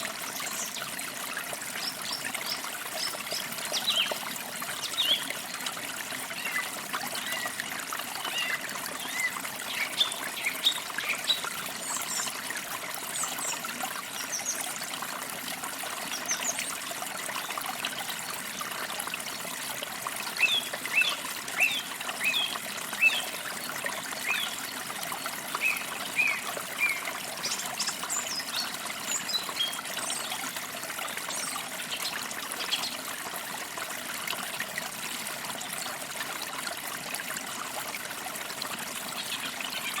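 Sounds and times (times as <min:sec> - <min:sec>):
stream trickling and babbling: 0:00.0 - 0:40.0.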